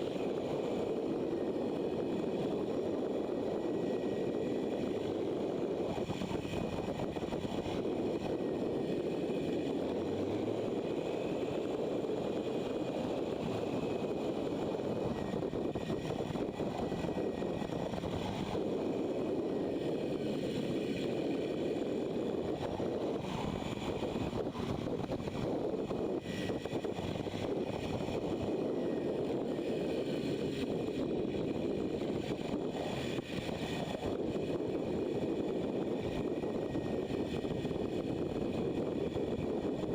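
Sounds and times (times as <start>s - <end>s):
motorcycle engine tyre and wind noise: 0.0s - 39.9s.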